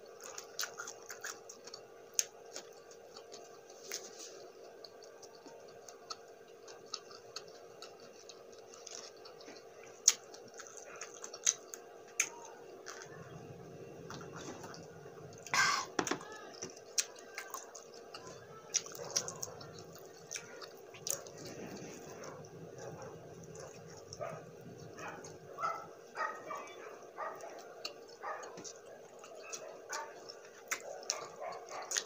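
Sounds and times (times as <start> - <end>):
wet chewing and mouth smacks: 0.0 - 13.2, 16.6 - 32.0
faint steady hum: 0.0 - 32.0.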